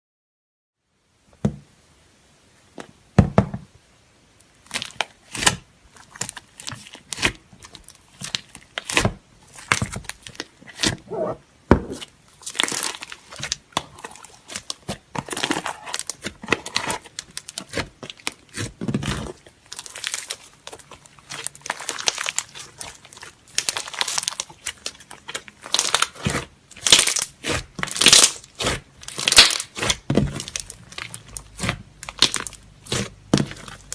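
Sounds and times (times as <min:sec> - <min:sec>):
slime crackling and popping: 0:04.4 - 0:11.1, 0:11.9 - 0:33.9.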